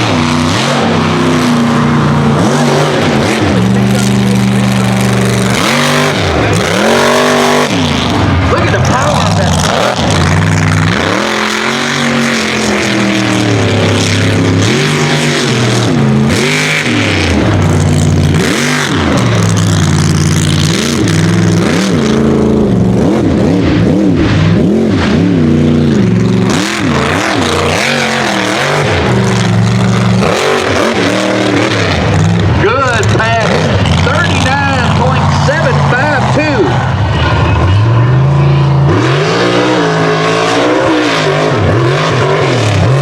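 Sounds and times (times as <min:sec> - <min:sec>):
truck engine revving hard: 0:00.0 - 0:43.0.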